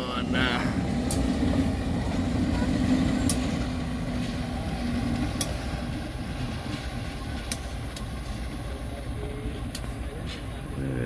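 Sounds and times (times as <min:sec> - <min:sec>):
diesel locomotive engine rumble: 0:00.0 - 0:11.0.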